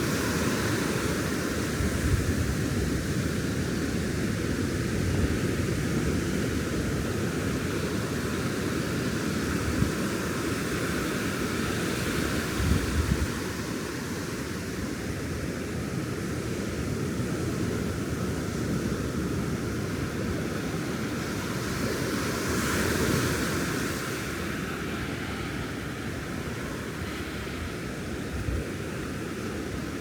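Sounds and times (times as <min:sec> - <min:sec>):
ocean surf washing on beach: 0:00.0 - 0:30.0.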